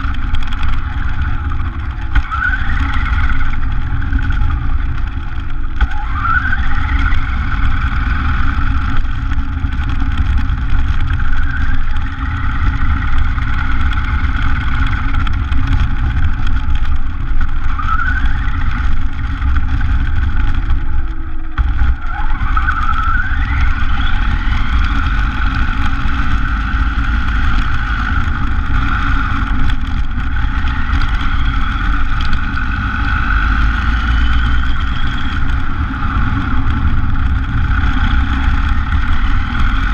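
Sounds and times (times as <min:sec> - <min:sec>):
toy car motor whine: 0:00.0 - 0:20.9, 0:21.6 - 0:39.9
tyres rumbling on road: 0:00.0 - 0:39.9.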